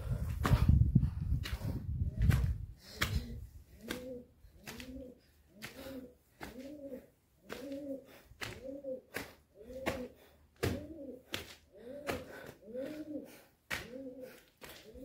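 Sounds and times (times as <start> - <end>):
footsteps on stone steps: 0.0 - 15.0
pigeon cooing: 3.0 - 15.0.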